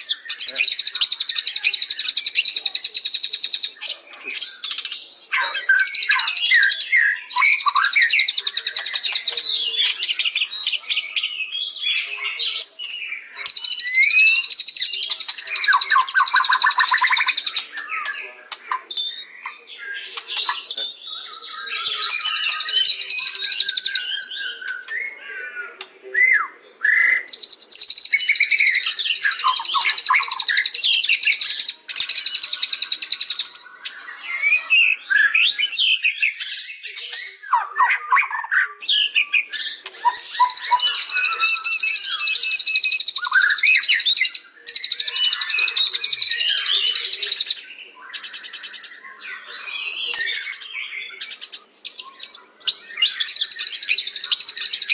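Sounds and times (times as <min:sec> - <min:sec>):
songbird whistling and trilling: 0:00.0 - 0:25.2, 0:26.1 - 0:54.9.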